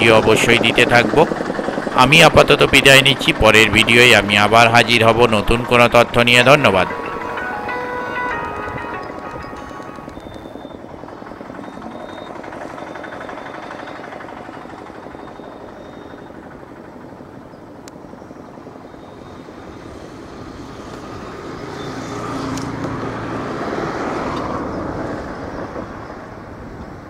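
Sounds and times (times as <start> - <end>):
vehicle engine running: 0.0 - 26.7.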